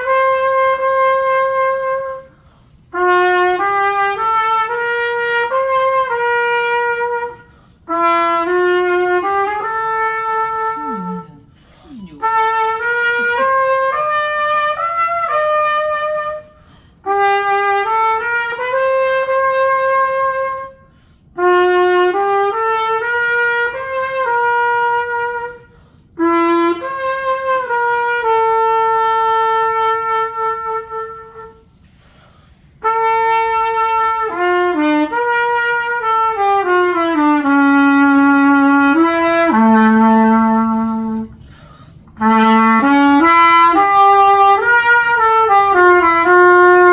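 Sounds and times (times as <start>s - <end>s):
cornet playing melodic notes: 0.0s - 2.3s, 2.9s - 31.7s, 32.8s - 41.4s, 42.2s - 46.9s.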